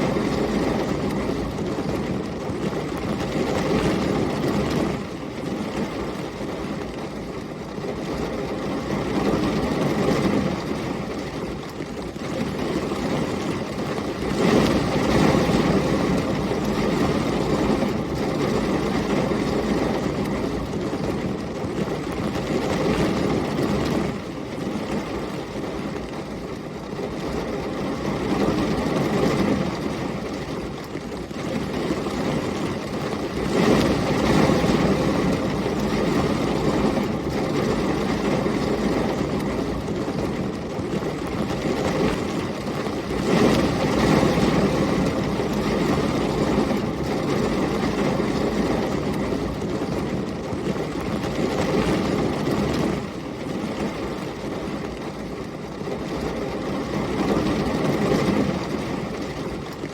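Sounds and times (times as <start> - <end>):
heavy rain: 0.0 - 59.9
storm wind: 0.0 - 59.9.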